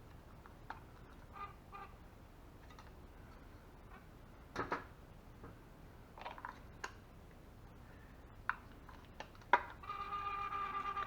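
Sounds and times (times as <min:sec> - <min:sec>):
faint steady background noise: 0:00.0 - 0:11.0.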